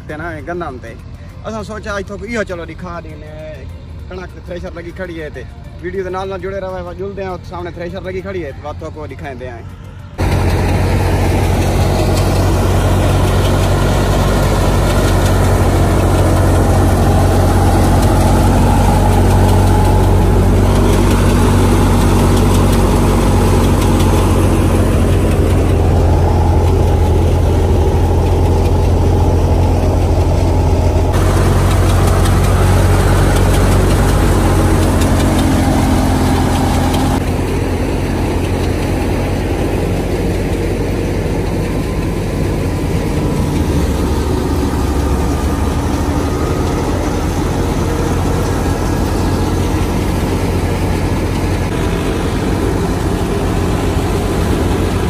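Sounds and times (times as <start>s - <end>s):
threshing machine clatter: 0.0s - 55.0s
tractor engine drone: 0.0s - 55.0s.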